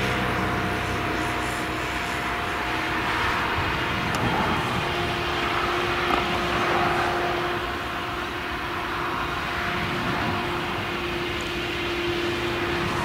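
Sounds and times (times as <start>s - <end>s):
constant whine: 0.0s - 13.0s
harvester engine droning: 0.0s - 13.0s.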